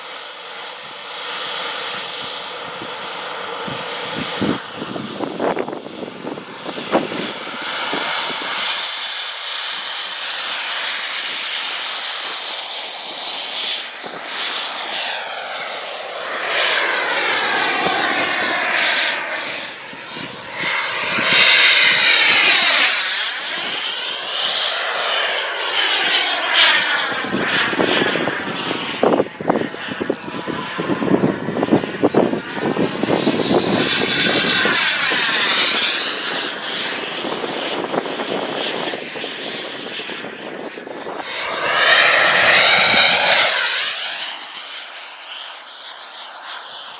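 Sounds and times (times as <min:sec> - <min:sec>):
jet rushing past: 0:00.0 - 0:38.3, 0:40.6 - 0:45.6
jet turbine whine: 0:00.0 - 0:46.9
wind buffeting microphone: 0:00.1 - 0:15.1, 0:17.4 - 0:23.9, 0:26.8 - 0:44.1.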